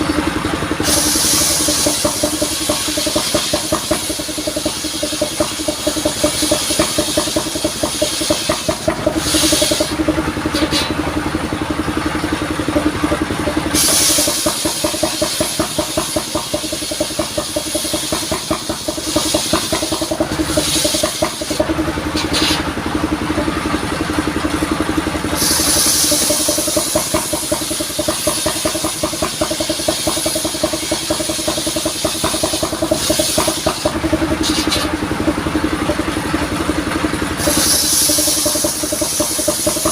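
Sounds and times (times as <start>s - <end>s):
sawmill engine throbbing: 0.0s - 39.9s
saw cutting wood hissing: 0.8s - 11.0s, 13.6s - 22.8s, 25.3s - 35.3s, 37.3s - 39.9s.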